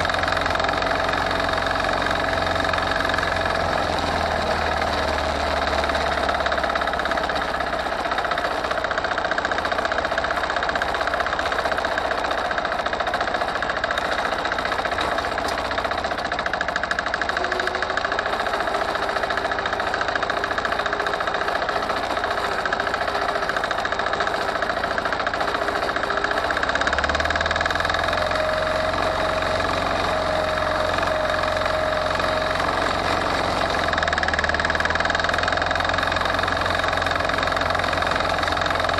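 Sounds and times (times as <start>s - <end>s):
walk-behind tractor engine running: 0.0s - 38.9s.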